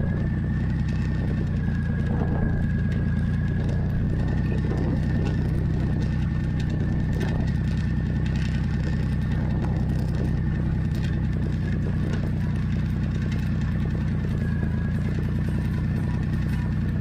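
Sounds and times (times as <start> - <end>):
motorcycle engine at low speed: 0.0 - 17.0.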